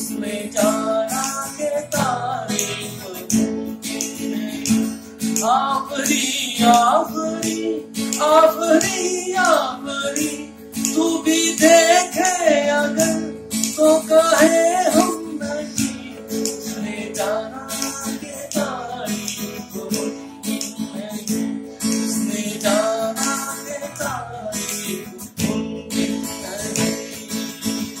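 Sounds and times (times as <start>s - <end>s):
person singing wordless phrases: 0.0s - 4.8s, 5.4s - 27.4s
strummed acoustic guitar: 0.0s - 28.0s.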